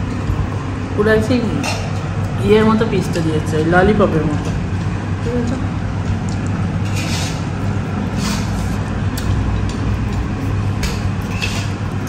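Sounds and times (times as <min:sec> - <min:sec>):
vehicle engine and road hum: 0:00.0 - 0:12.0.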